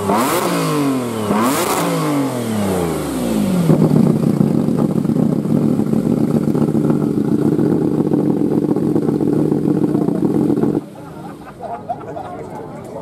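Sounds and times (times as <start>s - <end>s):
sports car engine idling loud: 1.2s - 11.6s.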